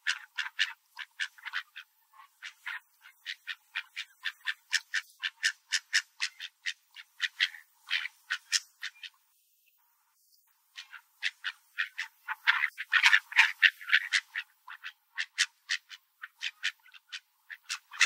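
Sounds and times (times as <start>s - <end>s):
ducks quacking: 0.0s - 9.2s, 10.7s - 18.0s.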